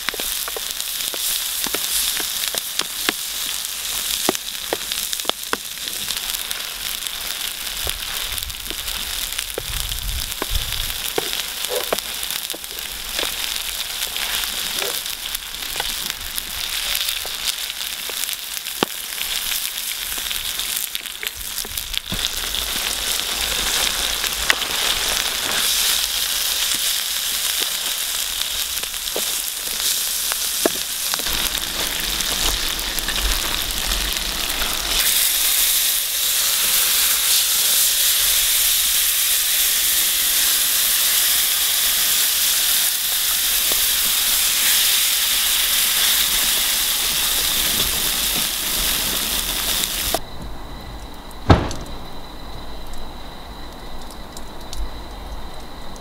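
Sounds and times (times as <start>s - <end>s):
food sizzling in a tray: 0.0s - 50.2s
wood fire crackling: 0.0s - 56.0s.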